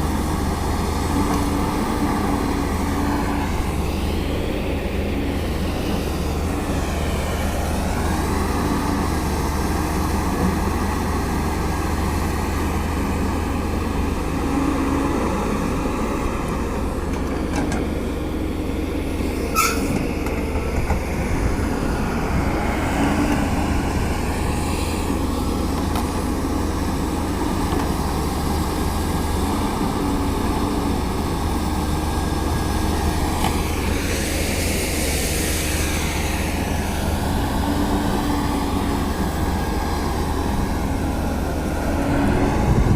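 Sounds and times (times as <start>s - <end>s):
excavator diesel engine running: 0.0s - 42.9s
hydraulics whining: 0.0s - 42.9s.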